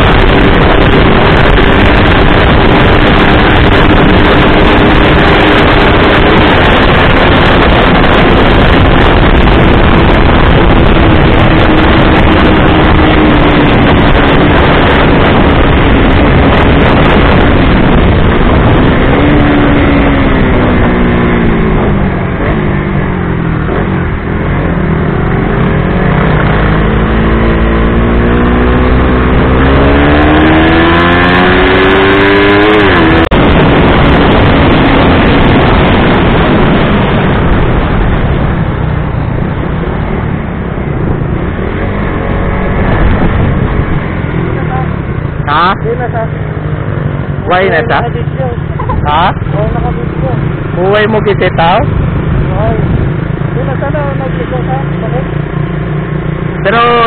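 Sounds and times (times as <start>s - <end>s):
motorcycle engine at full speed: 0.0s - 57.0s
wind noise on microphone: 0.0s - 57.0s.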